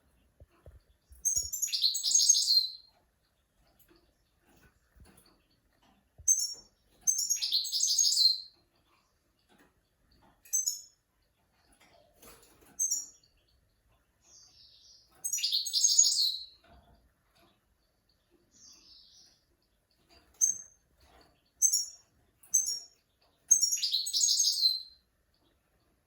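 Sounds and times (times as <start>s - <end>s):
songbird chirping and twittering: 0.0s - 26.0s.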